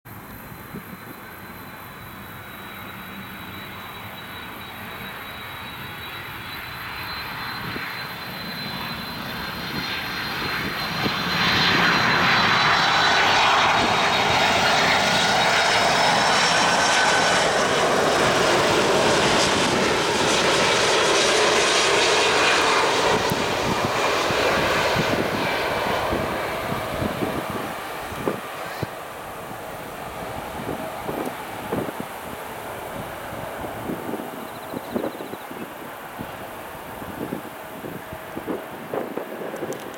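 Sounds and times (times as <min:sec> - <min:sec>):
jet engines whining: 0:00.1 - 0:39.9.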